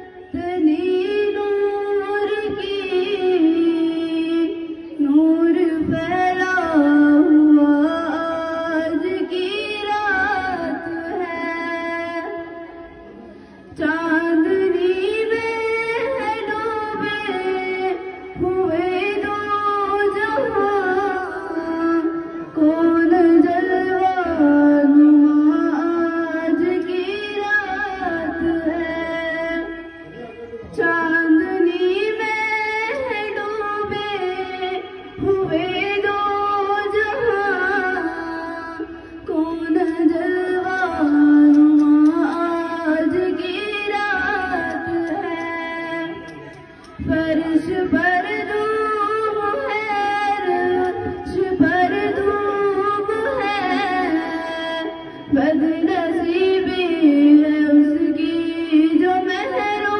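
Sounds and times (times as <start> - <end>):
girl singing into a microphone: 0.0 - 59.9.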